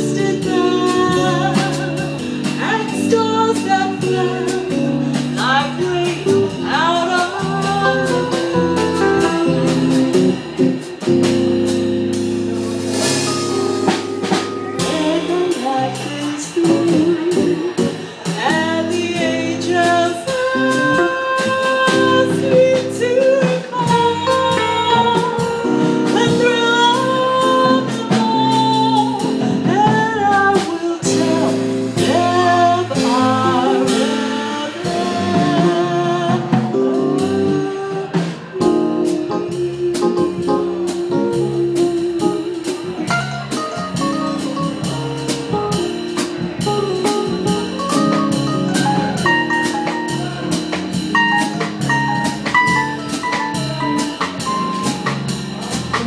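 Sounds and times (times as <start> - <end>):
woman singing into microphone: 0.0 - 10.8, 14.8 - 45.1, 47.0 - 55.4
drum kit with cymbals: 0.0 - 56.0
keyboard playing: 0.0 - 56.0.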